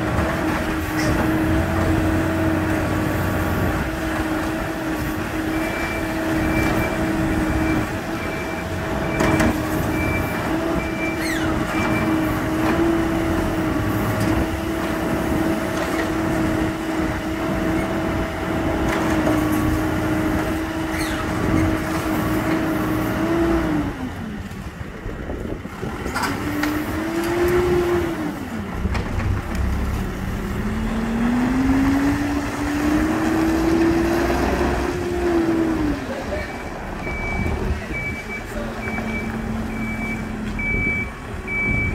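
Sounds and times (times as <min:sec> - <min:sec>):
diesel engine revving: 0:00.0 - 0:24.6, 0:25.2 - 0:41.9.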